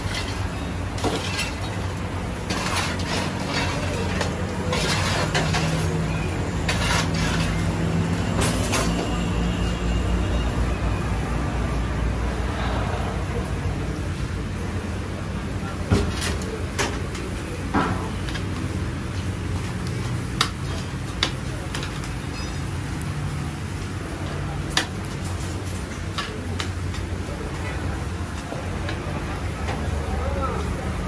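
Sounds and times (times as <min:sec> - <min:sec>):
low traffic rumble: 0:00.0 - 0:31.0.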